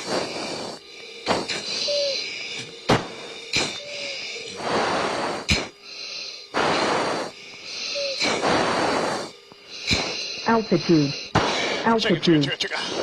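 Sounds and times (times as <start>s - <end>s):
heavy breathing into a mask: 0.0s - 12.0s.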